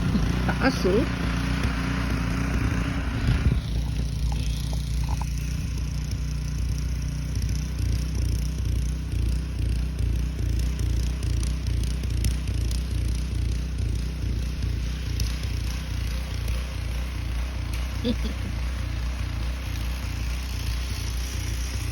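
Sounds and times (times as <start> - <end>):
motor humming: 0.0 - 21.9.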